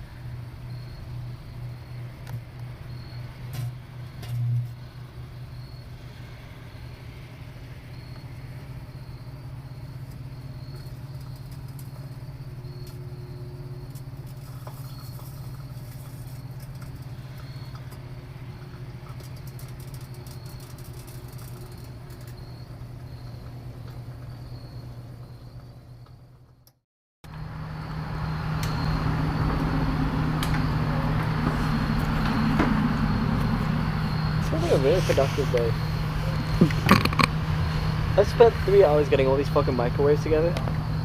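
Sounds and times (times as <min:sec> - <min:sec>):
microwave oven humming: 0:00.0 - 0:26.7, 0:27.3 - 0:41.0.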